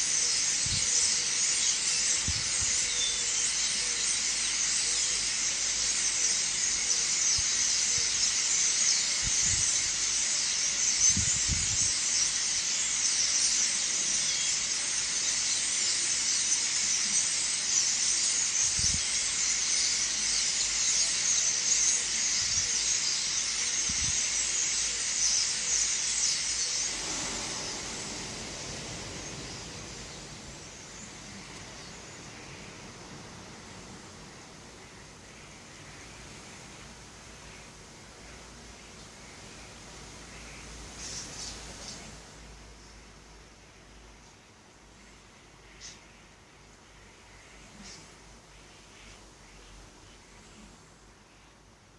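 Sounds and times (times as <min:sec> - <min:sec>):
small birds chirping: 0:00.0 - 0:51.6.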